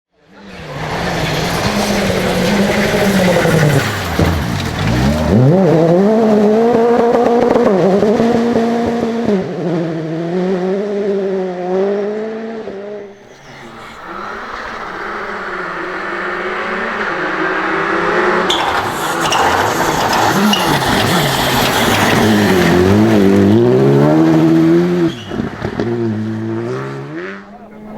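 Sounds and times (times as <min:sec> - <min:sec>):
rally car engine revving: 0:00.2 - 0:27.9.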